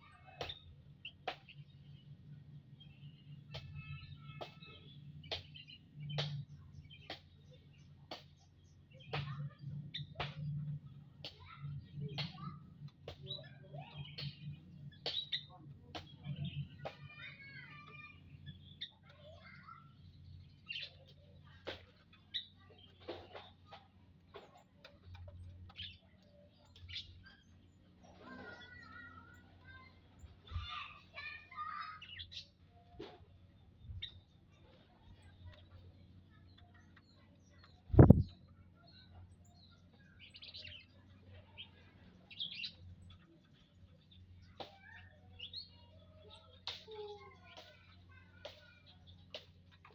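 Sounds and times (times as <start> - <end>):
birds chirping and calling: 0.0 - 49.9.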